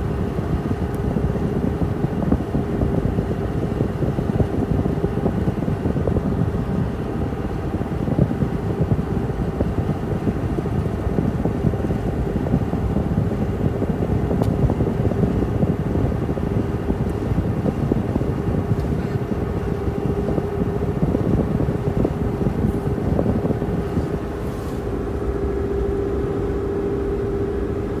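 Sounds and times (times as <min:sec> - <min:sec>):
road and engine noise in truck cab: 0:00.0 - 0:28.0.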